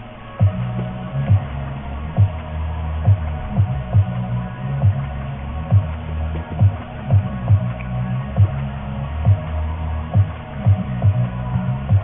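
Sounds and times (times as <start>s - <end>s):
music with bass and low beat: 0.0s - 12.0s.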